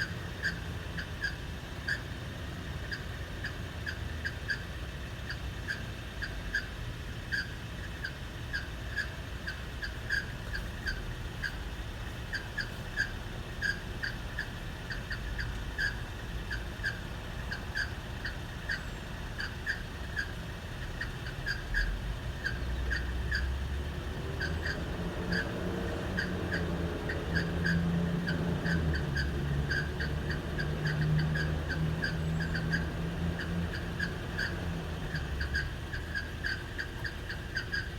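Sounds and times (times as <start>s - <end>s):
engine idling hum: 0.0s - 37.9s
fan clutch squeaking chirps: 0.0s - 37.9s.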